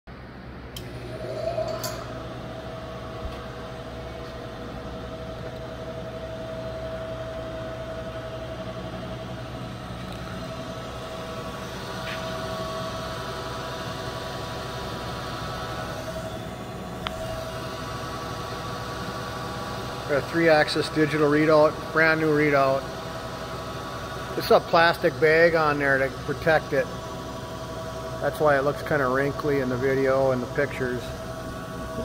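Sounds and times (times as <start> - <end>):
steady mechanical hum: 0.1 - 32.0.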